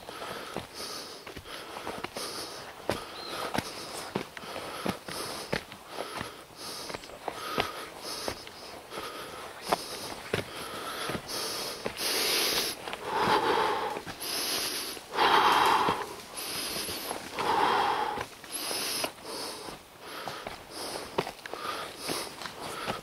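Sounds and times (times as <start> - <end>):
heavy labored breathing: 0.0 - 23.0.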